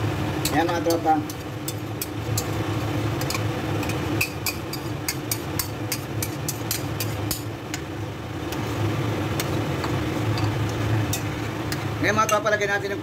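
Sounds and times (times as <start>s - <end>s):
electric hum: 0.0s - 13.0s.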